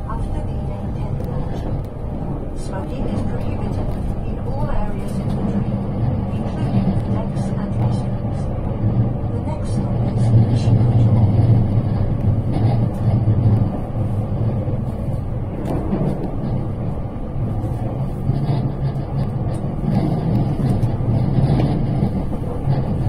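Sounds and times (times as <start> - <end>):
train running gear rumble: 0.0 - 23.0.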